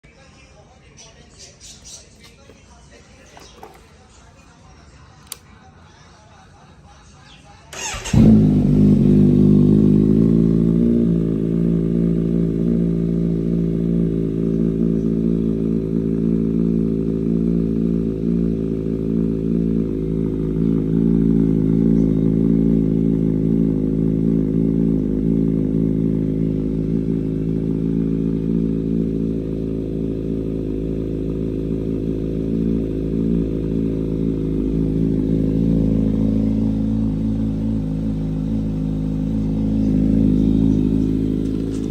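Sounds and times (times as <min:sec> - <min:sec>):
motorcycle engine idling: 0:01.6 - 0:04.0, 0:07.8 - 0:41.9.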